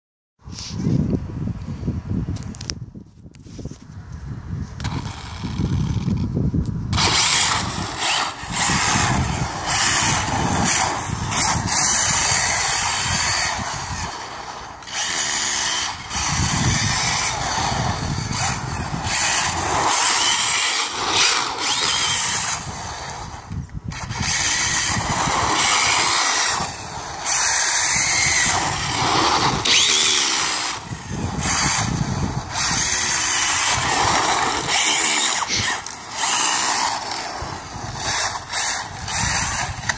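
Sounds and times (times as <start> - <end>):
electric motor whining: 6.9 - 39.9.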